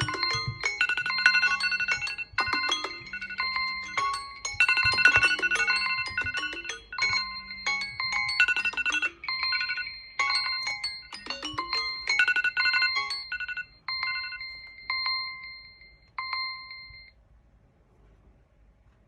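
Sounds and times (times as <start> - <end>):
smartphone alarm chimes: 0.0 - 17.2.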